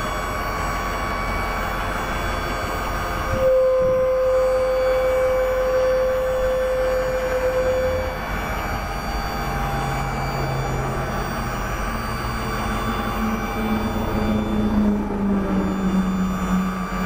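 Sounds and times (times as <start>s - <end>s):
diesel truck engine running: 0.0s - 17.0s
mechanical whine: 0.0s - 17.0s.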